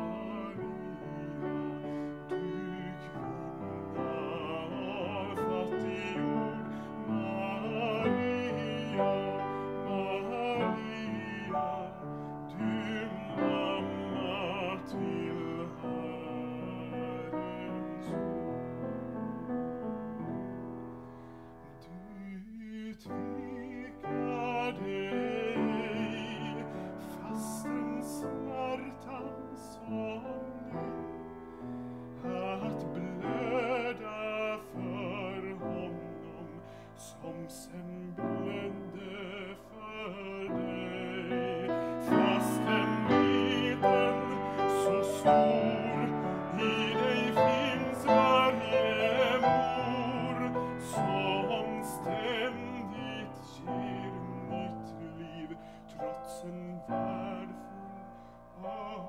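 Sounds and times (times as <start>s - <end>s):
man singing classical style: 0.0s - 59.0s
upright piano: 0.0s - 59.0s.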